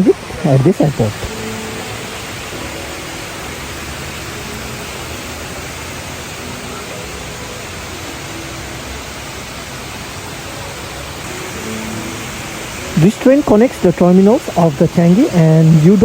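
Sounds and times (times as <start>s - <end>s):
indoor waterfall rushing: 0.0s - 16.0s.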